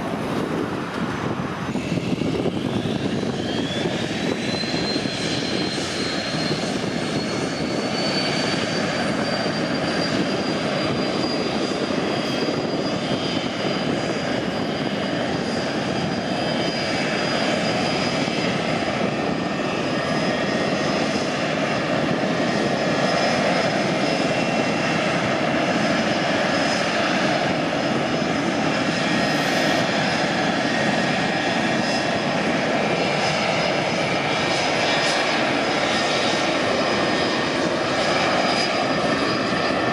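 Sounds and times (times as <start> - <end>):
jet engine high whine: 0.0 - 39.9.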